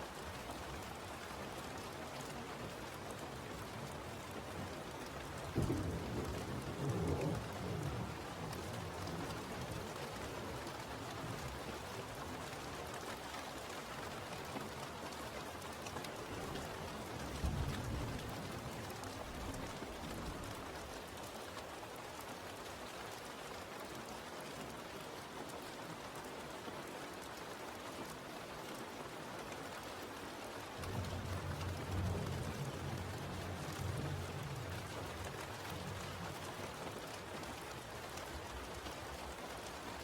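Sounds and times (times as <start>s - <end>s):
rain on surfaces: 0.0s - 40.0s.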